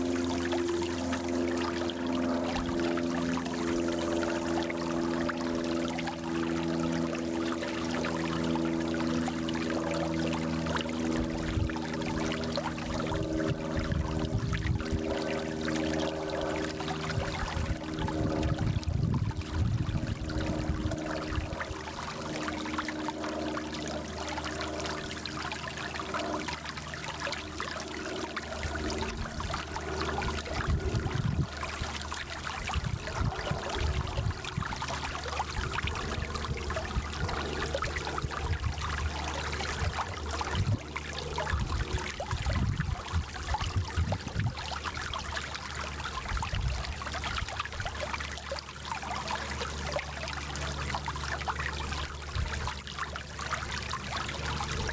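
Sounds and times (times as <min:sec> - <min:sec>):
stream babbling over stones: 0:00.0 - 0:54.9.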